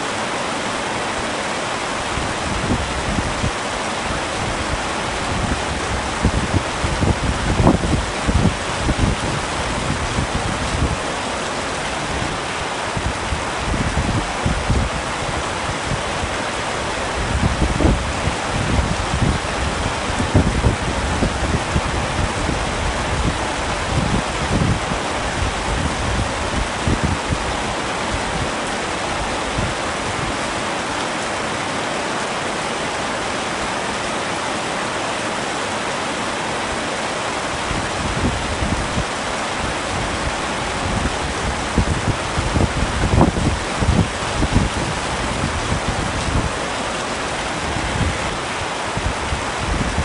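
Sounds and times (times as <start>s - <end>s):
heavy rain on a tent: 0.0s - 50.0s.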